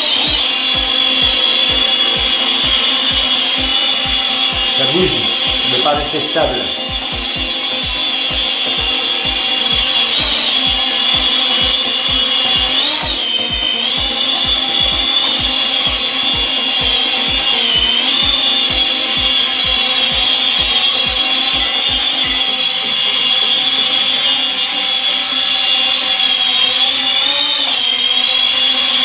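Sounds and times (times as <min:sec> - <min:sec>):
toy drone motors whining: 0:00.0 - 0:29.0.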